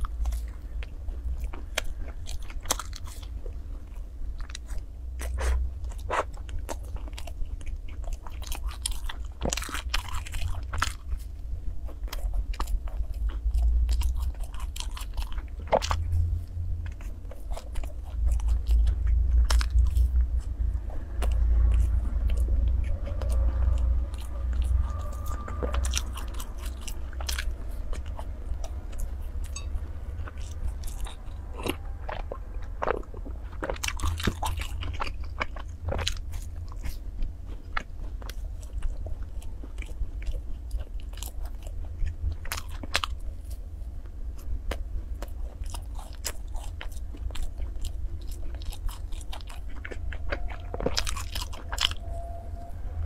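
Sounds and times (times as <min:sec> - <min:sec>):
chewing crunchy snack: 0:00.0 - 0:52.4.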